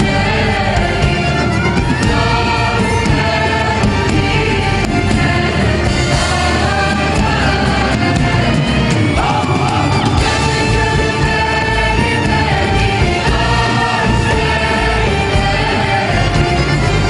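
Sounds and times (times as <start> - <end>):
instrumental accompaniment: 0.0 - 17.0
percussion beat: 0.0 - 17.0.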